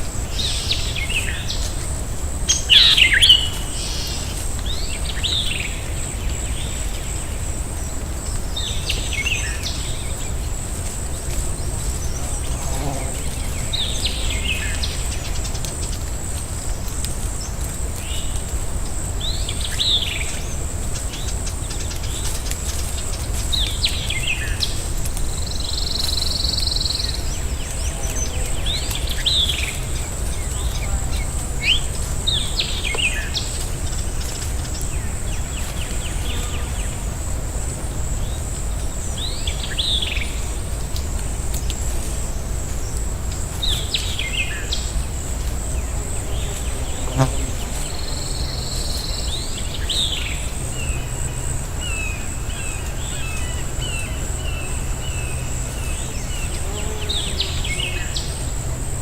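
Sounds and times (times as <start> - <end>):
constant low rumble: 0.0 - 59.0
steady high-pitched whine: 0.0 - 59.0.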